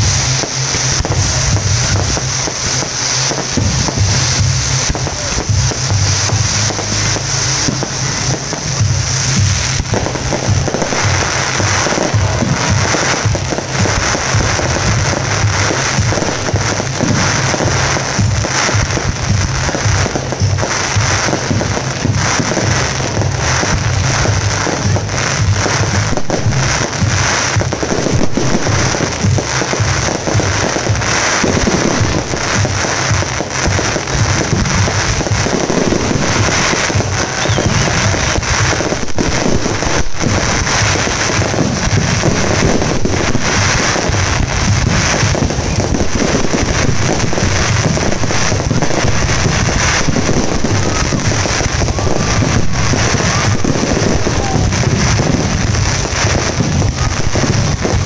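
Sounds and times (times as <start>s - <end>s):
fireworks bursts and crackles: 0.0s - 58.0s
music: 0.0s - 58.0s.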